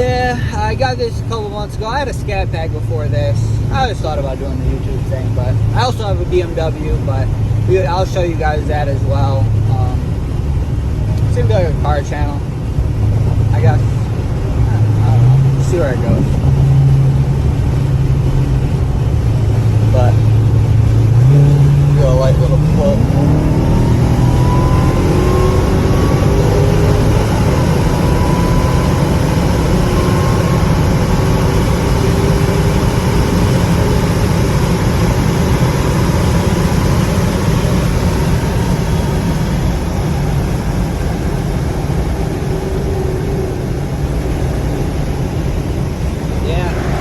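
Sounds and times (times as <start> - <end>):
car engine accelerating: 0.0 - 47.0
road noise: 0.0 - 47.0.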